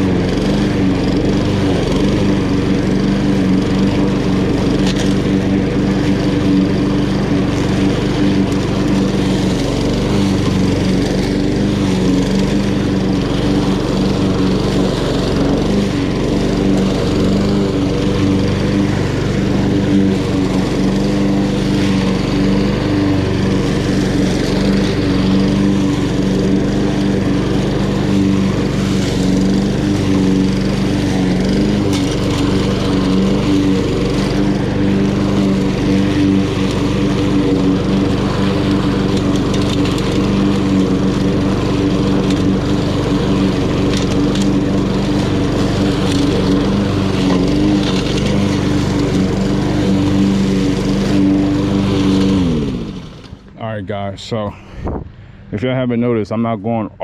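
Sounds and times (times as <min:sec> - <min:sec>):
lawn mower engine cutting grass: 0:00.0 - 0:56.3.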